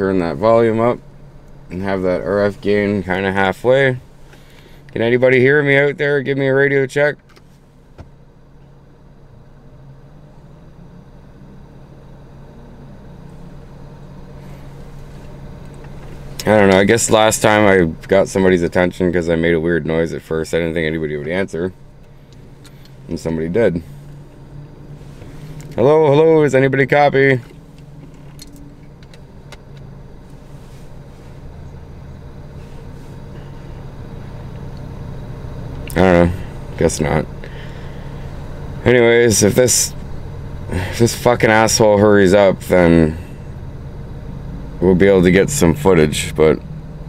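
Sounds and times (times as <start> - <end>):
vehicle engine humming: 0.0 - 47.0.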